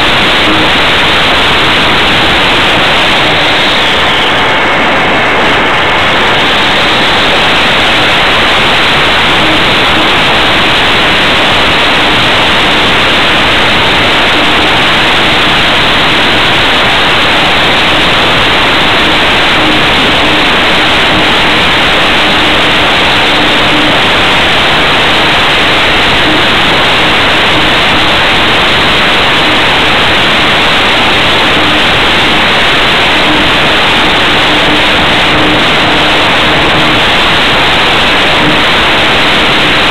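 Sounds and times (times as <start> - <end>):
airflow rushing over microphone: 0.0 - 39.9
faint hum: 0.0 - 39.9.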